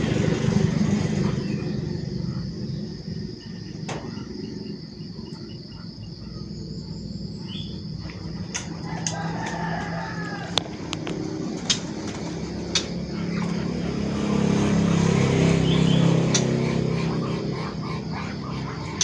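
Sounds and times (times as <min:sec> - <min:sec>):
vehicle engine passing by: 0:00.0 - 0:05.6, 0:06.2 - 0:19.0.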